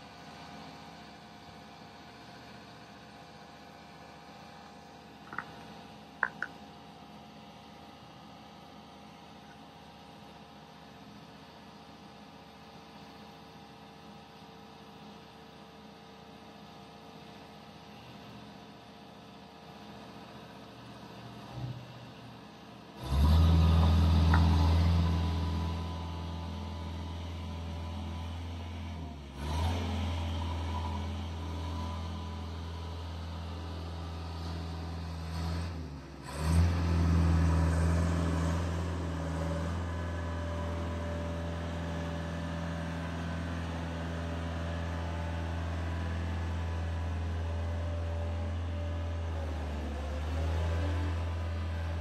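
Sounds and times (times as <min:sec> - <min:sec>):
boom lift engine humming: 0:00.0 - 0:21.4, 0:22.2 - 0:52.0.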